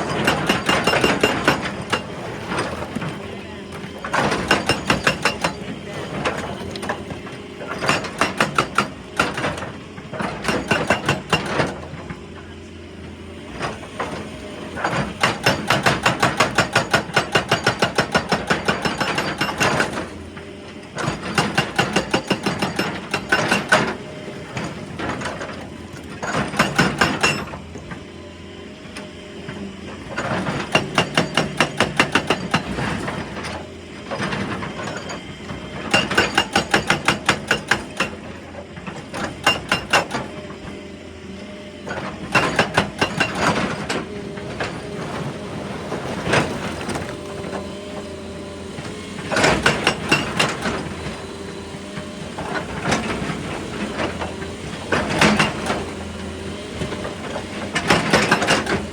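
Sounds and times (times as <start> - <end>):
hydraulic breaker pounding rock: 0.0 - 58.9.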